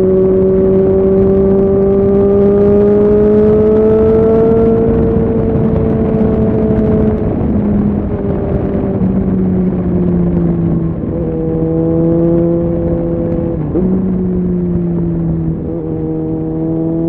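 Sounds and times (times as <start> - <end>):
motorcycle engine running: 0.0 - 17.0
rush of wind noise: 0.0 - 17.0.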